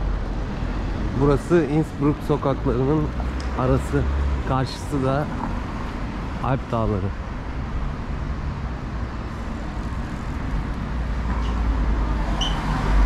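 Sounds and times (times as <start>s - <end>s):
passing cars: 0.0s - 13.0s.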